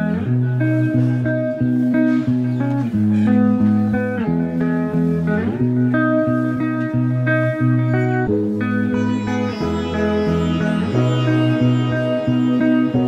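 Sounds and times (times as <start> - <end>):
bass line: 0.0 - 13.0
instrumental guitar tune: 0.0 - 13.0.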